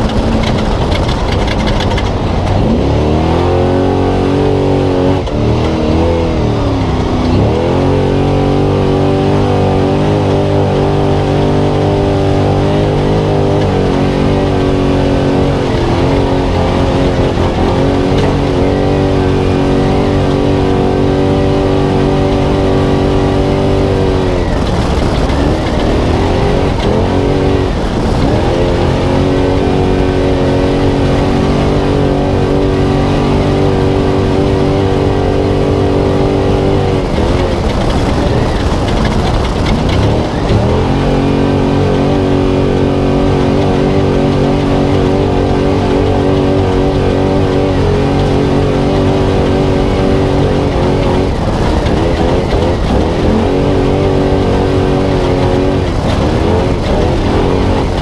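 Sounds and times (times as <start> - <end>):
truck engine at high revs: 0.0 - 58.0.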